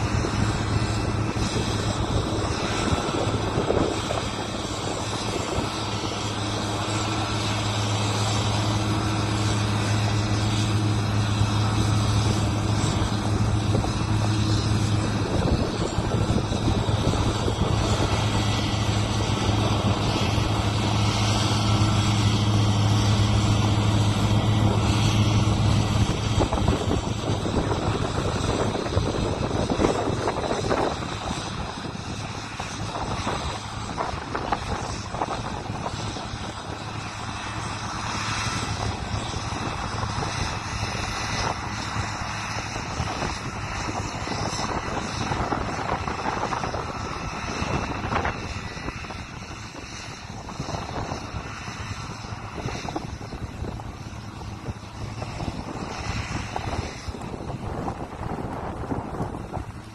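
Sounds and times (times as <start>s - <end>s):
combine harvester engine hum: 0.0s - 59.9s
noisy rush: 0.0s - 59.9s.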